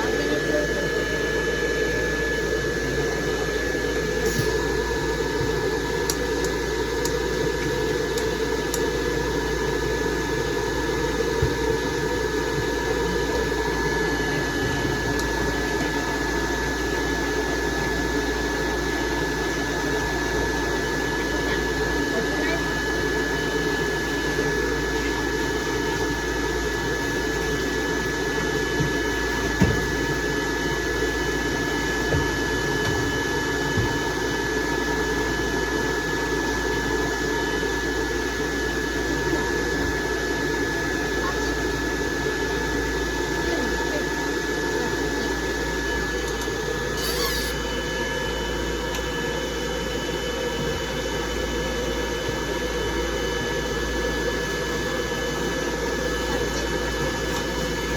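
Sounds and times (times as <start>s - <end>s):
dog dryer blowing with high whine: 0.0s - 57.9s.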